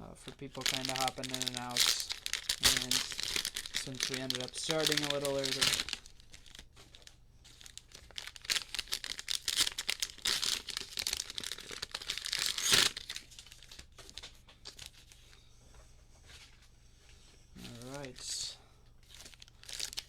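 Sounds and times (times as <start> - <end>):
plastic wrappers crinkling and tearing: 0.2 - 15.4, 17.6 - 20.0.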